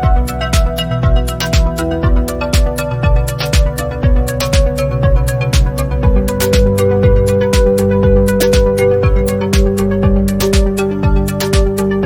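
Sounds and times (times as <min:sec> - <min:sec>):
held synth notes: 0:00.0 - 0:12.0
hi-hat ticks: 0:00.0 - 0:12.0
kick drum: 0:00.0 - 0:12.0.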